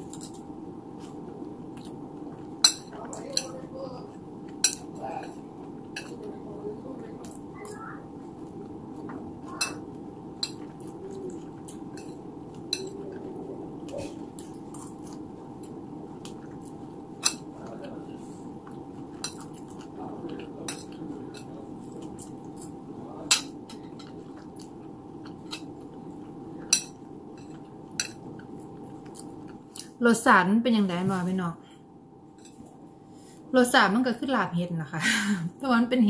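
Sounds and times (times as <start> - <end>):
chewing: 0.0 - 30.0.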